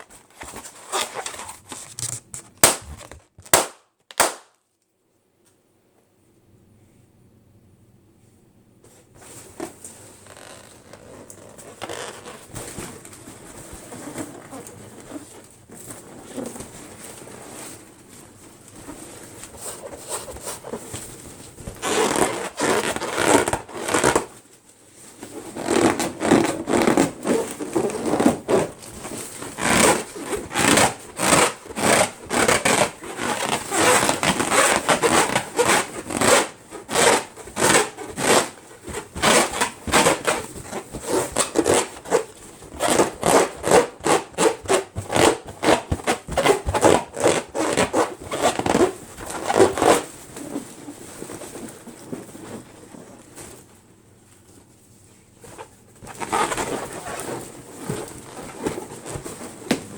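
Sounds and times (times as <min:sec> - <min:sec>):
rubber balloons being rubbed: 0:00.0 - 0:04.4, 0:09.2 - 0:17.9, 0:18.5 - 0:24.4, 0:25.2 - 0:53.7, 0:55.4 - 0:59.9.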